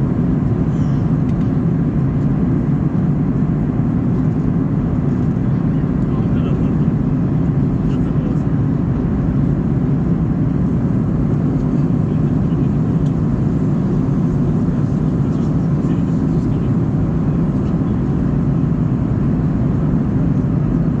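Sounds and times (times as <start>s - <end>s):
jet engine cabin noise: 0.0s - 21.0s.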